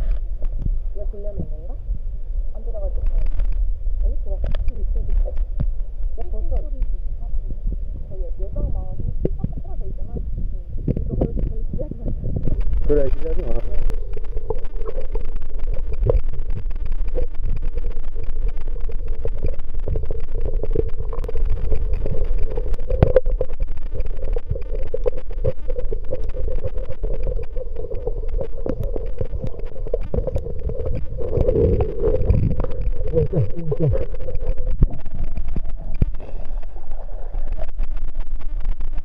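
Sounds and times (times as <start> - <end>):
underwater clicks and crackles: 0.0 - 1.8, 2.5 - 39.0
underwater rumble and hum: 0.0 - 39.0
water burbling: 2.5 - 39.0.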